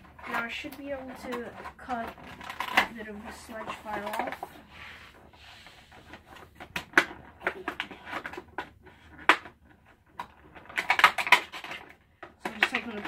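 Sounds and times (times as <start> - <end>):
scissors cutting plastic: 0.0 - 4.5, 6.1 - 13.0.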